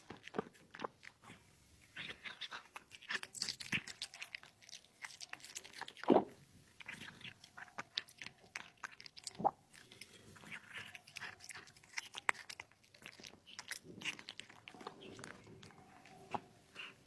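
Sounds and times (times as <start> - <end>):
cat chewing and biting: 0.0 - 17.0.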